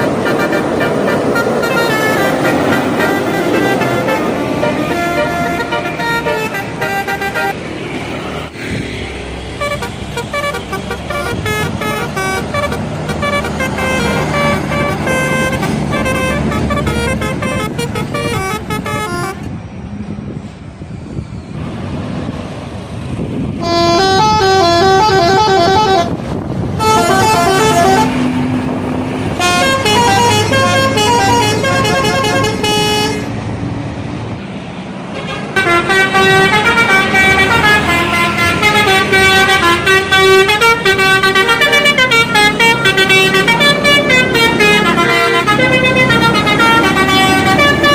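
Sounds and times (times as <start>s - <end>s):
multi-trumpet air horn melodies: 0.0s - 7.6s, 9.6s - 19.5s, 23.6s - 28.4s, 29.3s - 33.3s, 35.1s - 47.9s.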